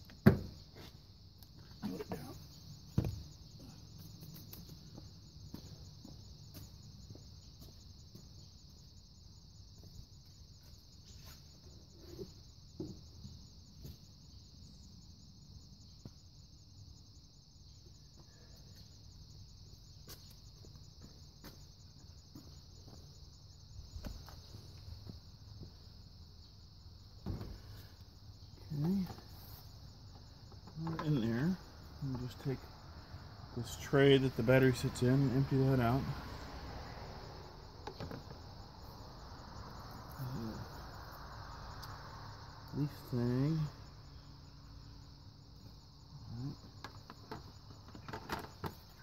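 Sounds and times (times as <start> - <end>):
high insect trill: 0.0 - 49.0.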